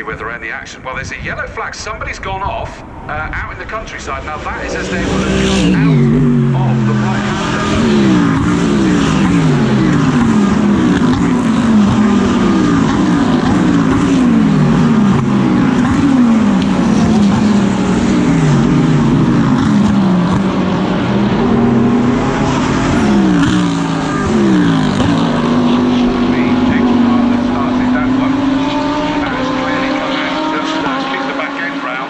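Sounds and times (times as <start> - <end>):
race car engine at speed: 2.8 - 32.0.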